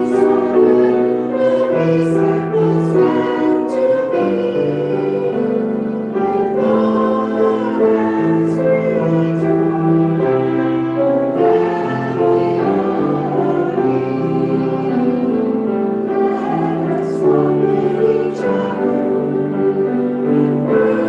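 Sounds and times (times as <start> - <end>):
congregation singing: 0.0 - 21.0
musical accompaniment: 0.0 - 21.0.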